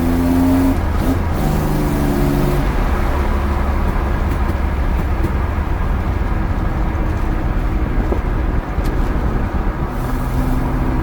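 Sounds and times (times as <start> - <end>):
car engine deep exhaust drone: 0.0 - 11.0.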